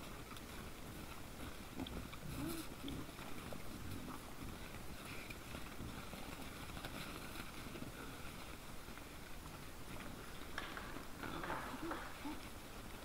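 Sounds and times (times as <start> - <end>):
wild boars grunting: 0.0 - 13.0.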